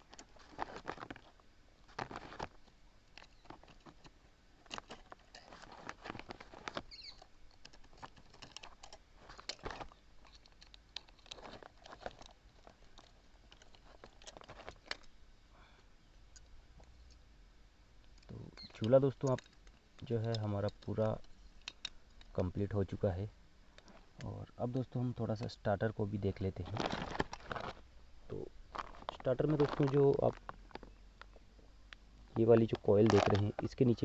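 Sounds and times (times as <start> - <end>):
hands handling small parts: 0.0 - 15.2, 18.0 - 22.4, 26.2 - 34.0.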